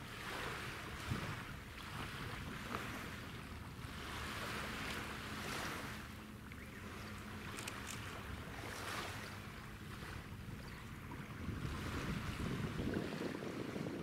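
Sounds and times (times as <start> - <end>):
wind gusting over microphone: 0.0 - 4.7, 7.5 - 14.0
faint low hum of boats: 0.0 - 14.0
waves washing along shore: 0.0 - 14.0.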